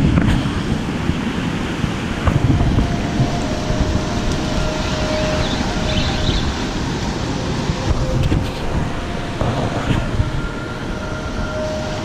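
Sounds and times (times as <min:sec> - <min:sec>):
ocean surf washing over rocks: 0:00.0 - 0:12.0
wind buffeting microphone: 0:00.0 - 0:12.0.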